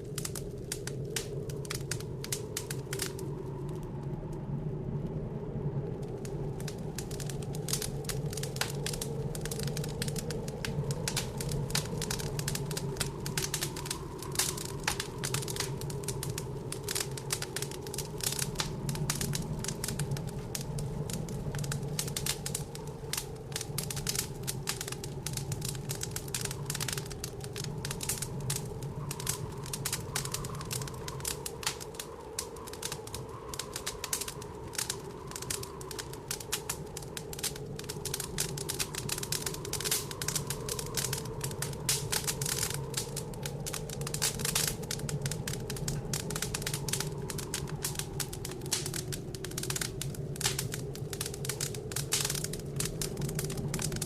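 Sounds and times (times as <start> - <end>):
howling blizzard wind: 0.0 - 54.0
wood fire crackling: 0.0 - 54.0.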